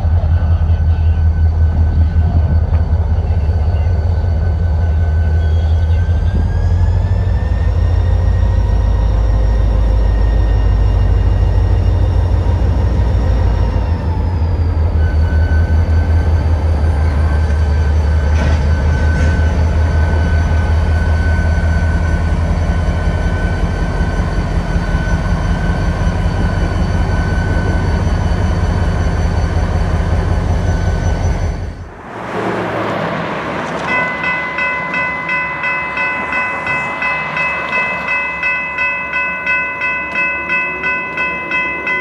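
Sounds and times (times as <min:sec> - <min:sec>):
diesel locomotive engine rumble: 0:00.0 - 0:42.0.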